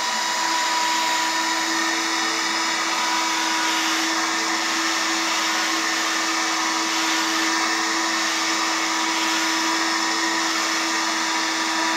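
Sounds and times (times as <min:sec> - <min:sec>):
suction fan whirring: 0:00.0 - 0:11.9.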